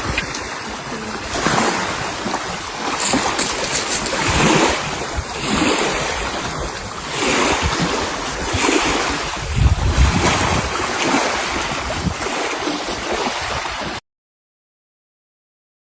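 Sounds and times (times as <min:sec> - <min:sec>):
sea water washing: 0:00.0 - 0:14.0
wind buffeting microphone: 0:00.0 - 0:14.0.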